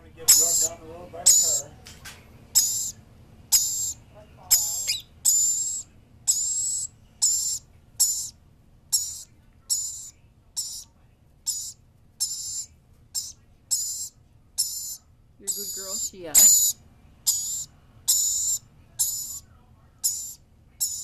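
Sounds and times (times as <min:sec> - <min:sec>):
parrot shrill raspy calls: 0:00.3 - 0:01.7, 0:02.6 - 0:10.9, 0:11.5 - 0:19.4, 0:20.0 - 0:21.0.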